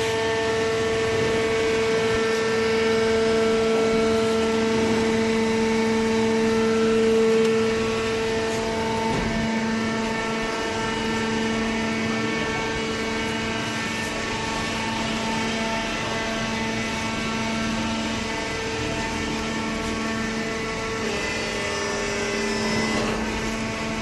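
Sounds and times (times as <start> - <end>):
constant whine: 0.0 - 24.0
hydraulic power unit humming: 0.0 - 24.0.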